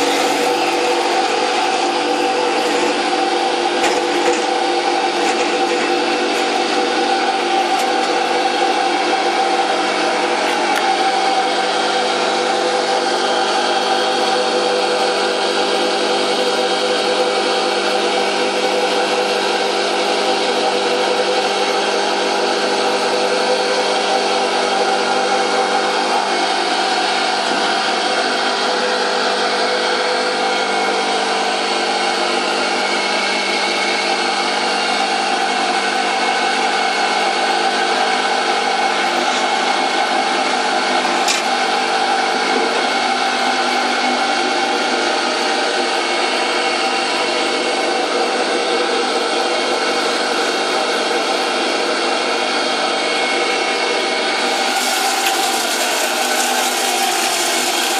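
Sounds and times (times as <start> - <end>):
electric motor humming: 0.0 - 29.8, 37.7 - 57.9.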